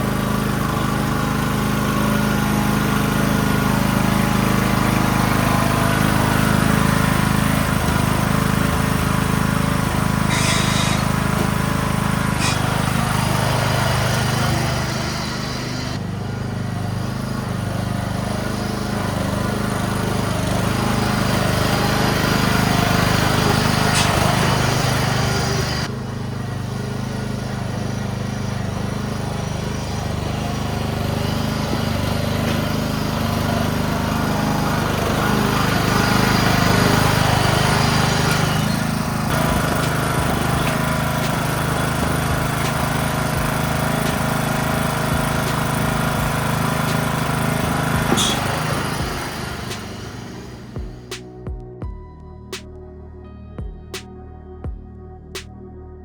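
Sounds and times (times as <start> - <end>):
riding mower engine running: 0.0 - 52.8.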